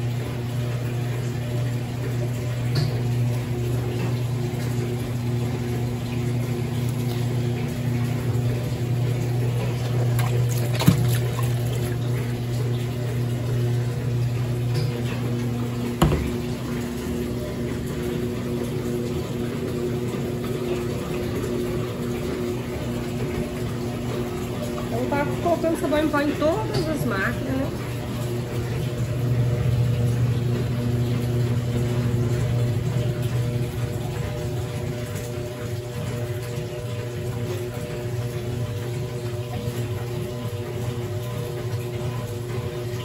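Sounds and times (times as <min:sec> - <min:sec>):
low machine hum: 0:00.0 - 0:43.0
water running into washing machine: 0:00.0 - 0:43.0.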